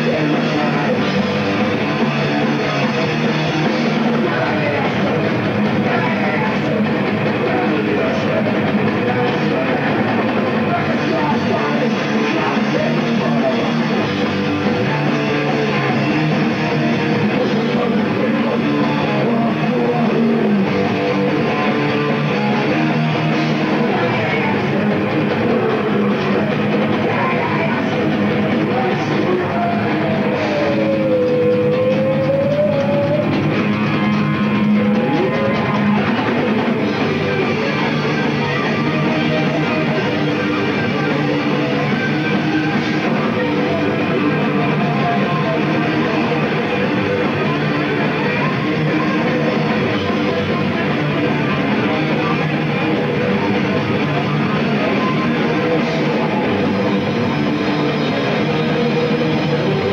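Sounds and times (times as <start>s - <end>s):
bass guitar: 0.0s - 59.9s
distorted electric guitars: 0.0s - 59.9s
pounding drum kit: 0.0s - 59.9s.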